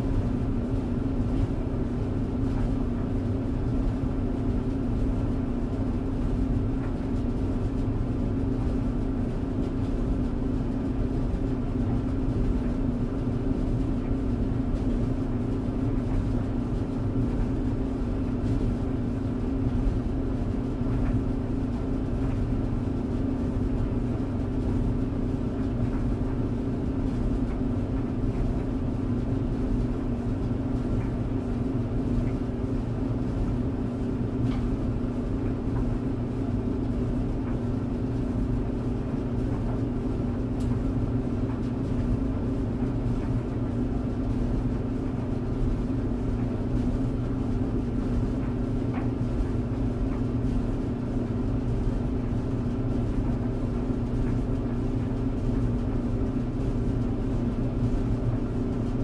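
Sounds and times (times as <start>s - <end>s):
tumble dryer running: 0.0s - 59.0s.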